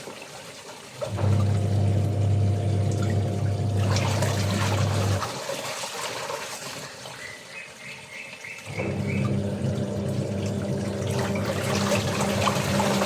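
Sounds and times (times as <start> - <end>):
running water rushing: 0.0 - 7.5, 8.6 - 13.0.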